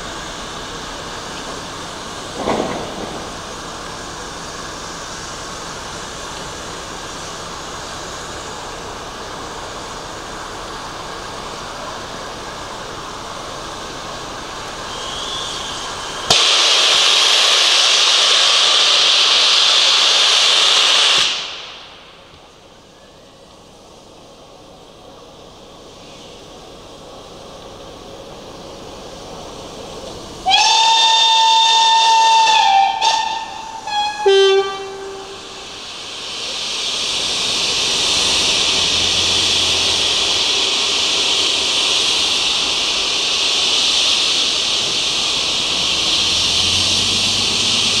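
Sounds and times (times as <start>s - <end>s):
loud hiss of escaping steam: 0.0s - 48.0s
steam locomotive rumble: 0.0s - 48.0s.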